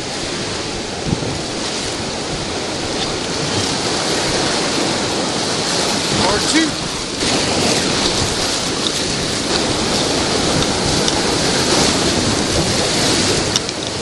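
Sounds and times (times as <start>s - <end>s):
whitewater rapids rushing: 0.0s - 14.0s.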